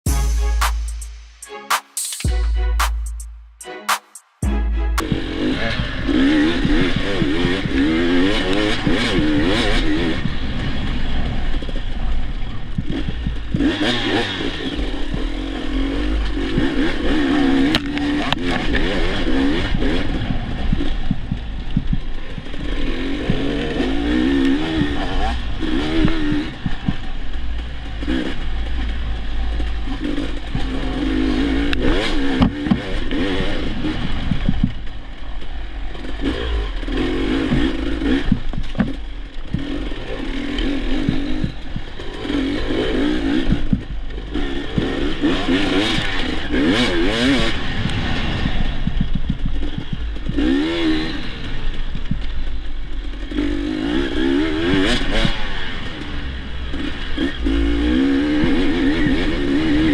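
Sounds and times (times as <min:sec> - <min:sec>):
dirt bike engine revving: 0:04.4 - 0:59.9.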